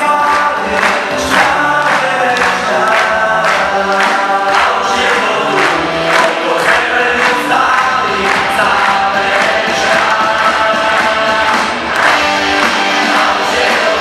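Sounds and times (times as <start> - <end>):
group singing: 0.0 - 14.0
hands clapping in time: 0.0 - 14.0.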